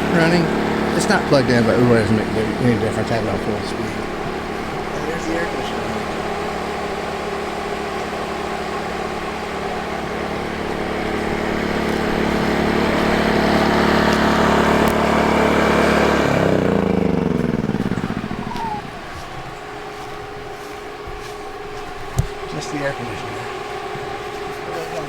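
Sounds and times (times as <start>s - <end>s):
air conditioner fan running: 0.0s - 25.0s
generator engine running: 0.0s - 25.0s.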